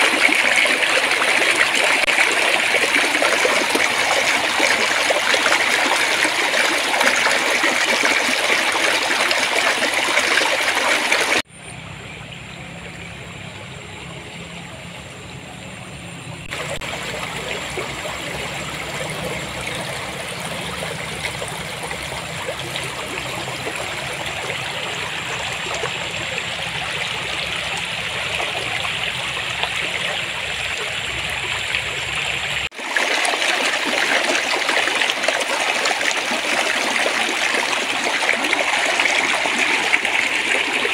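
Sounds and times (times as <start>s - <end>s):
stream babbling over stones: 0.0s - 11.5s, 16.5s - 40.9s.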